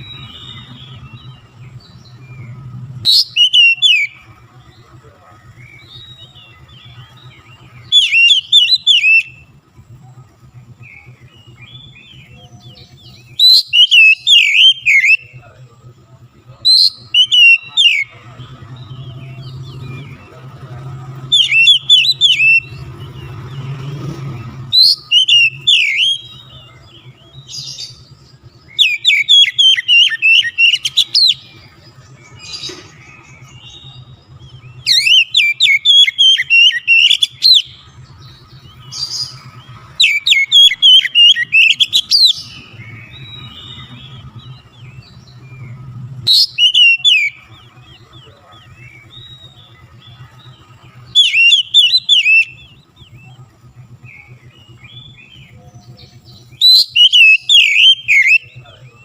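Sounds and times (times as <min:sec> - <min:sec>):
bird singing whistled phrases: 0:00.0 - 0:04.4, 0:05.5 - 0:09.5, 0:10.8 - 0:15.5, 0:16.5 - 0:20.4, 0:21.2 - 0:59.0.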